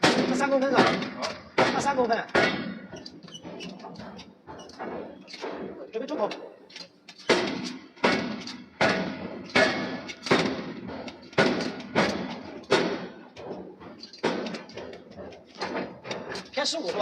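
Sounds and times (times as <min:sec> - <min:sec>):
hammer striking steel: 0:00.0 - 0:17.0.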